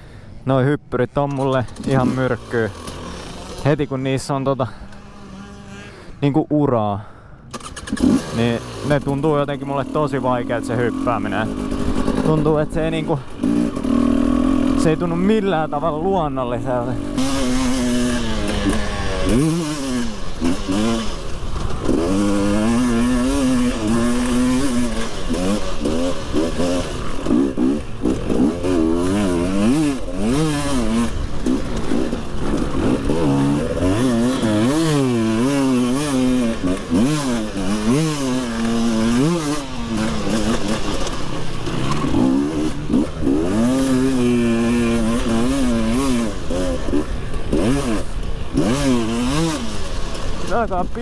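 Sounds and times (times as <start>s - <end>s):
motocross bike engine revving: 1.3s - 6.4s, 7.1s - 51.0s.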